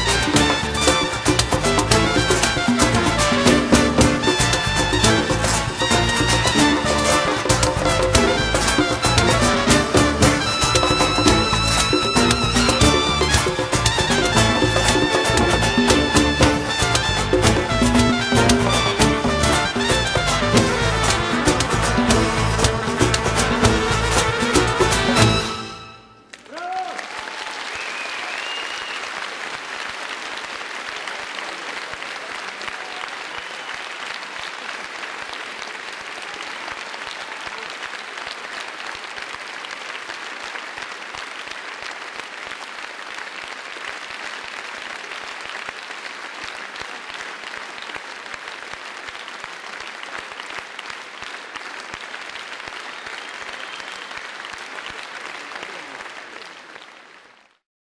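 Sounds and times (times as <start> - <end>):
audience applauding: 0.0 - 57.6.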